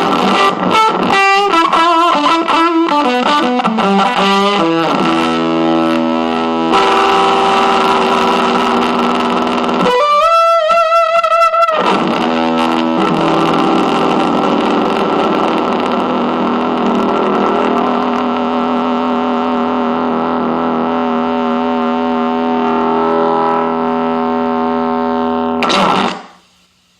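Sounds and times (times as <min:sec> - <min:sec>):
heavily distorted electric guitar: 0:00.0 - 0:26.6.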